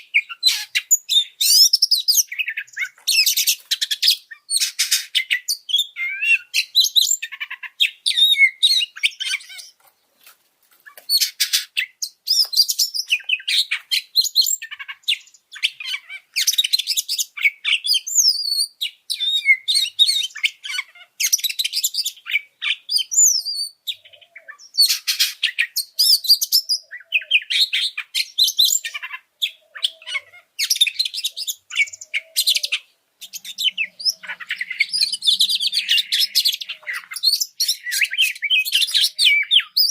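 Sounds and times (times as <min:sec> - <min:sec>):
bird singing whistled song: 0:00.0 - 0:09.7, 0:11.1 - 0:39.9.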